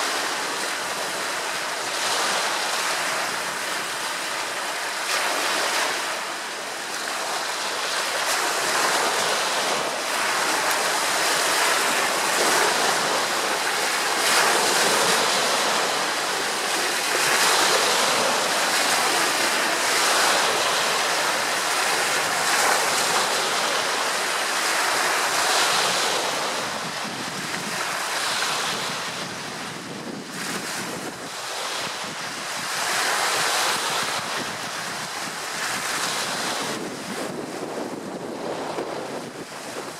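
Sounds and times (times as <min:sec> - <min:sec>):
waves splashing and lapping: 0:00.0 - 0:39.9
wind gusting on microphone: 0:05.2 - 0:39.9.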